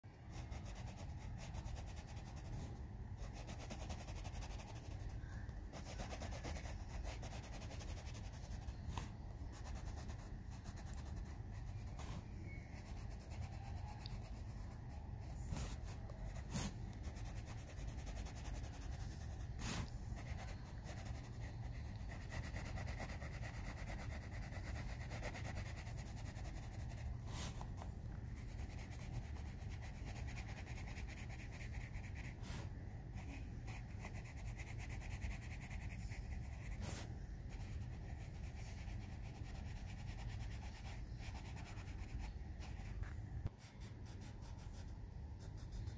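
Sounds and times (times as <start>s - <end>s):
pencil scratching on paper: 0.3s - 45.9s.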